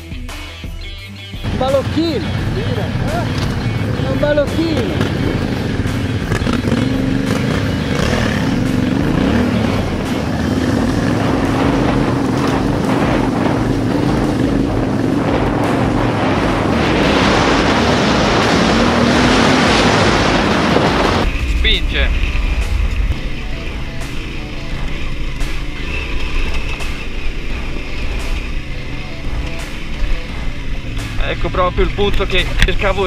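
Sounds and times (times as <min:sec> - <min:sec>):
motorcycle engine running: 0:01.4 - 0:33.0
wind noise: 0:01.4 - 0:33.0.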